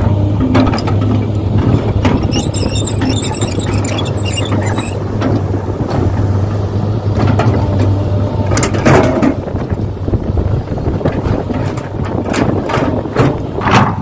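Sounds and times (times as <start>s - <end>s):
excavator engine drone: 0.0s - 14.0s.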